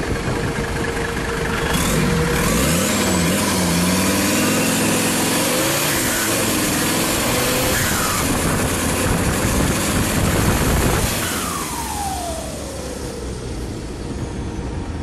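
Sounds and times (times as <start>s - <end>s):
off-road vehicle engine revving: 1.2s - 14.3s.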